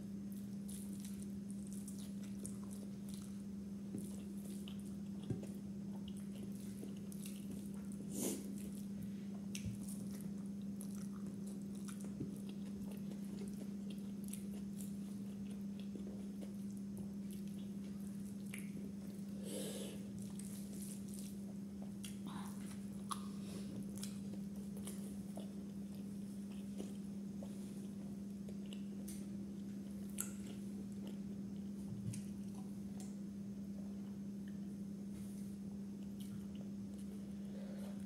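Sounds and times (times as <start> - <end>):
chewing and wet mouth smacks: 0.3 - 8.9, 9.5 - 19.0, 20.2 - 33.2, 36.0 - 37.1.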